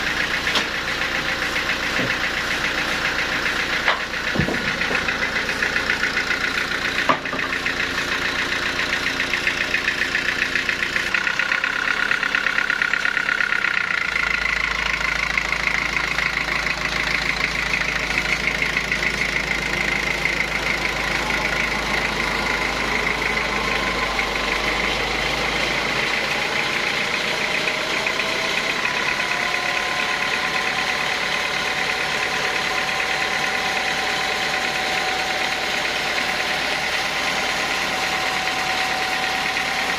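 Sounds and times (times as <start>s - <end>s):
sawmill saw humming and whining: 0.0s - 39.9s.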